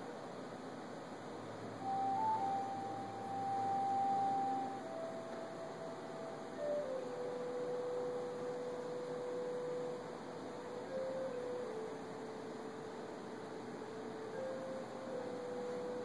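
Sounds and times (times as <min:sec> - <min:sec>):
soft ambient music: 0:00.0 - 0:16.0
steady hiss: 0:00.0 - 0:16.0.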